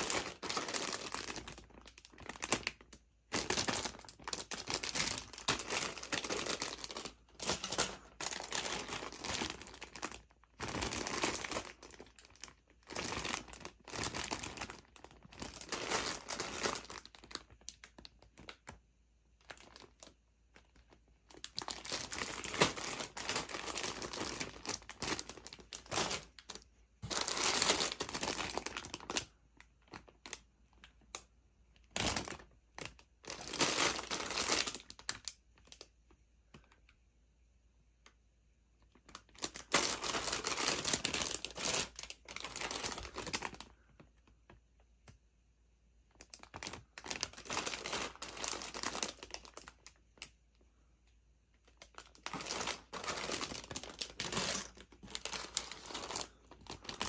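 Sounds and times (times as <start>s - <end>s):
plastic bags crinkling: 0.0s - 18.8s, 19.4s - 31.2s, 31.8s - 35.9s, 38.9s - 44.6s, 46.1s - 50.4s, 51.6s - 57.0s.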